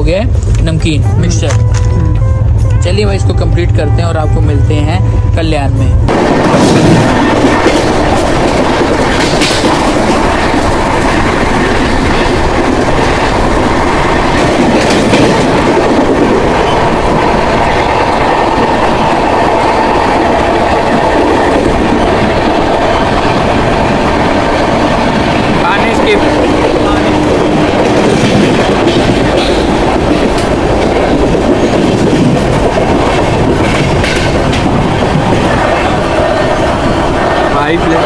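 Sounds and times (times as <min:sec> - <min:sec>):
rumble of wheels on rails: 0:04.9 - 0:38.0
clickety-clack over rail joints: 0:06.1 - 0:38.0.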